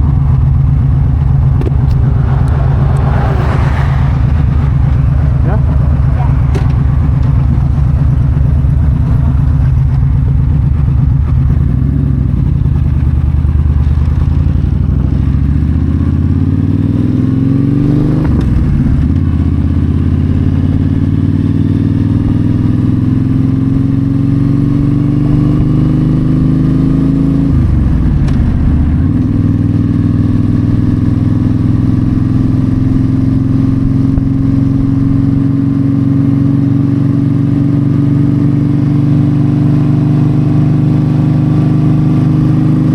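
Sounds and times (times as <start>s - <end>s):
motorcycle engine shifting up: 0.0s - 23.9s, 24.6s - 40.7s
wind and road noise: 0.0s - 42.9s.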